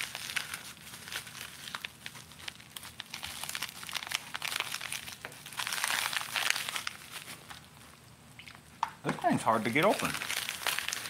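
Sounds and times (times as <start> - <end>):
plastic packaging crinkling: 0.0 - 8.5, 9.2 - 11.0.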